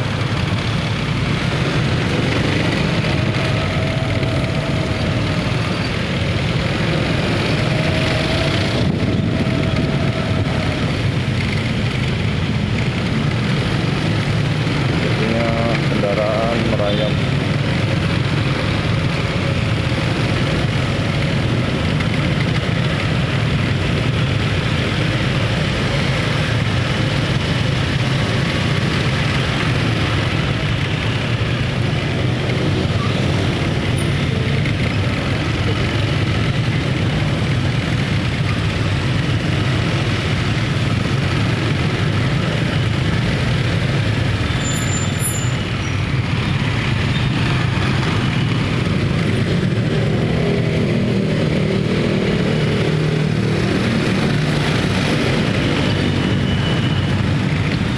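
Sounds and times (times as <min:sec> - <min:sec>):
road traffic rumble: 0:00.0 - 0:57.9
tyre and road noise: 0:00.0 - 0:57.9.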